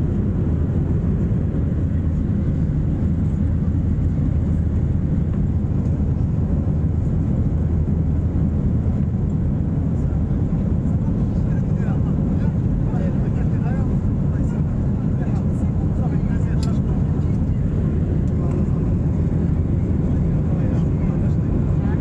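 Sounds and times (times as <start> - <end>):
jet engines and rushing air: 0.0 - 22.0.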